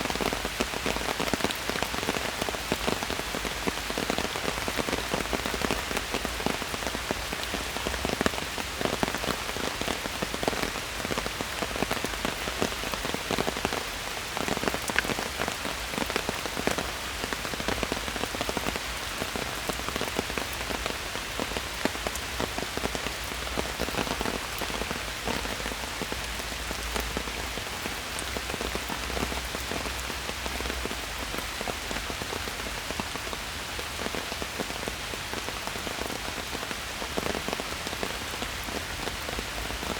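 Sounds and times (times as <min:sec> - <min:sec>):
raindrops pattering on leaves: 0:00.0 - 0:39.9
steady rain hiss: 0:00.0 - 0:39.9.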